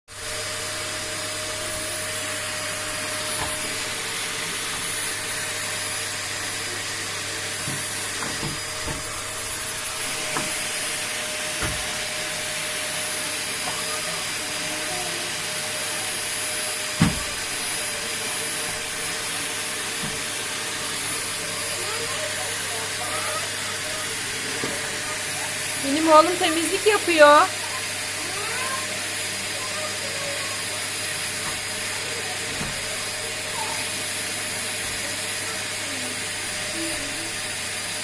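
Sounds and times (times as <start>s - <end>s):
vacuum cleaner running: 0.1s - 38.0s.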